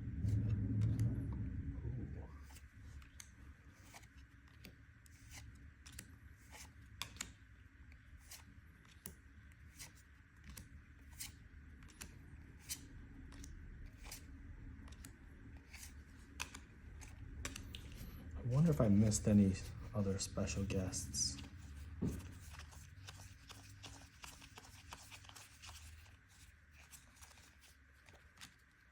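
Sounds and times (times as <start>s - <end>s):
steady low hum: 0.0s - 26.2s
trading cards flipping: 2.4s - 28.9s.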